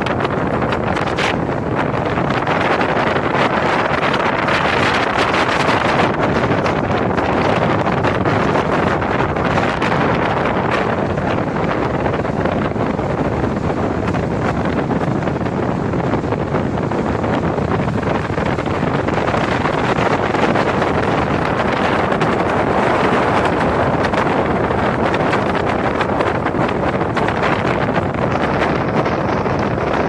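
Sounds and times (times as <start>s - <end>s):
speedboat engine and water rush: 0.0s - 30.0s
wind buffeting microphone: 0.0s - 30.0s.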